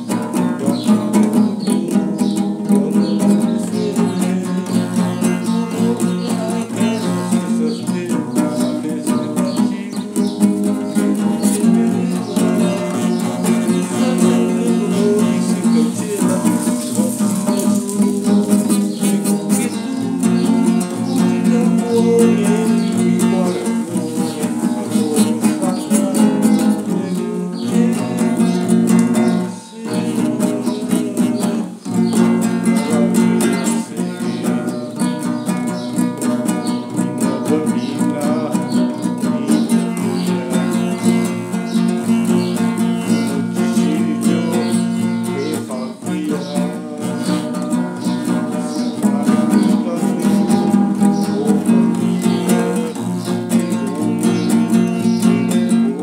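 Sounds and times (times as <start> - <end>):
man singing: 0.0 - 56.0
strummed acoustic guitar: 0.0 - 56.0.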